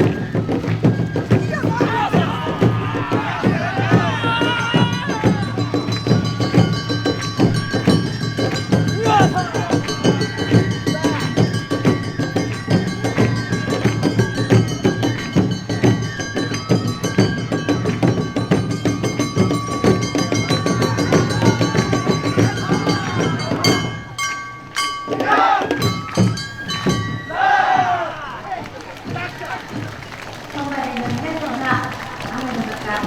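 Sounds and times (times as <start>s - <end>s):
drums and hand gongs playing: 0.0s - 33.0s
voices: 0.0s - 33.0s.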